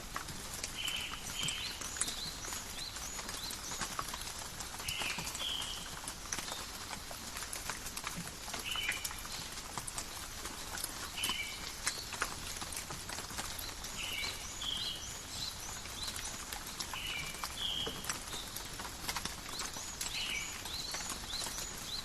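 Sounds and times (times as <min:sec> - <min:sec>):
rain pattering in forest: 0:00.0 - 0:22.0.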